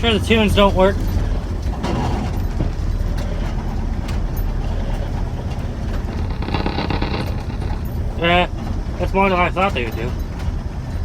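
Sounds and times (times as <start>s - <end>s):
pickup engine and exhaust drone: 0.0s - 11.0s
truck knocks and rattles: 0.0s - 11.0s.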